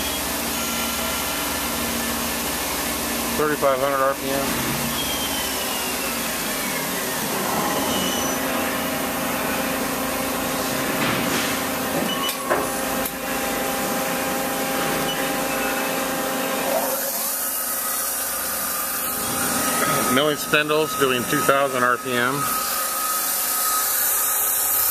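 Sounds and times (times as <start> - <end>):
lathe spindle whine: 0.0 - 10.9, 11.7 - 24.9.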